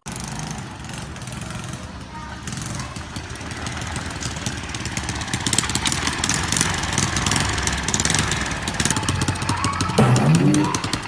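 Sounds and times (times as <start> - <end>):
small motorcycle engine idling: 0.0 - 11.0.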